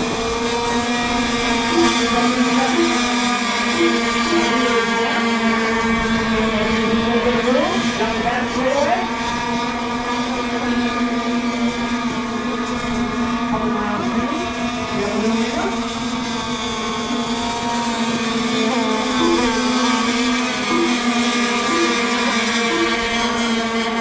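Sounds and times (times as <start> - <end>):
radio-controlled boat engines droning: 0.0 - 24.0.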